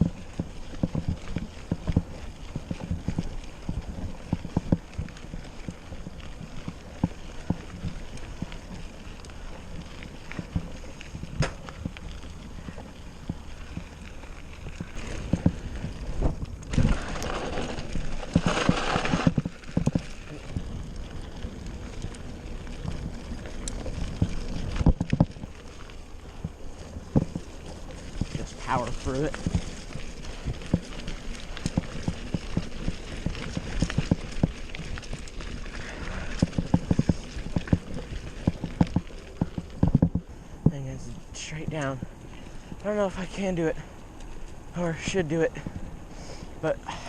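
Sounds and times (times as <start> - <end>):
bicycle rattling over rough ground: 0.0 - 47.0.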